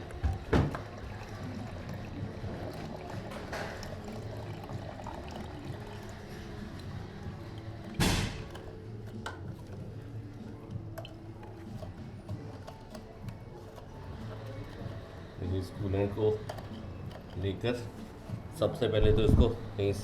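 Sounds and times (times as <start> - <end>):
liquid trickling into a container: 0.0 - 20.0.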